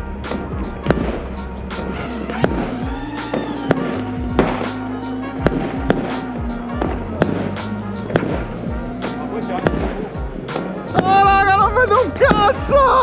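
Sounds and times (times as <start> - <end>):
background music: 0.0 - 13.0
fireworks bangs: 0.0 - 13.0.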